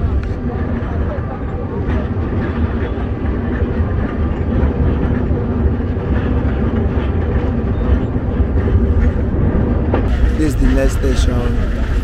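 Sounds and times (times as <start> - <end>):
train carriages rumbling: 0.0 - 12.0.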